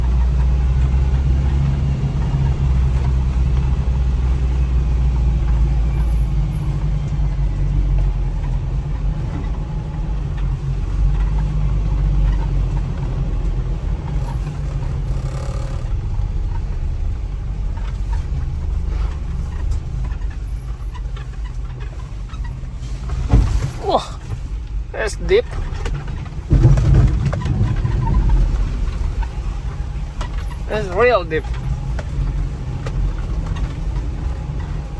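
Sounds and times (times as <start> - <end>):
vehicle engine and road rumble: 0.0 - 34.9.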